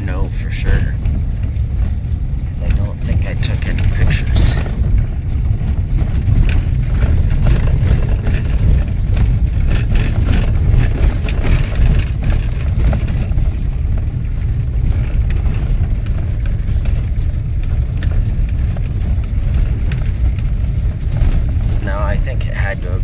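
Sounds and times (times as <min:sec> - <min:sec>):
rattles and knocks from bumps: 0:00.0 - 0:23.0
vehicle road rumble: 0:00.0 - 0:23.0.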